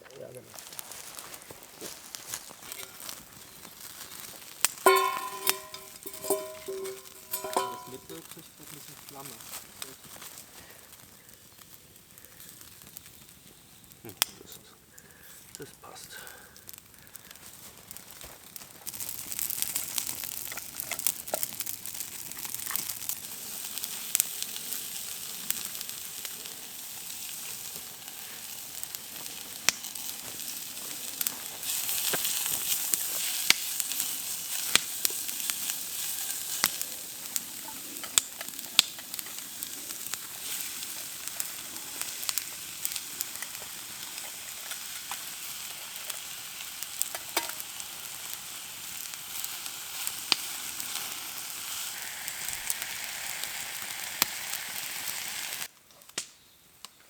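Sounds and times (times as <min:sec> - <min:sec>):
food sizzling over campfire: 0:00.0 - 0:57.0
sharp pops and crackles: 0:00.1 - 0:57.0.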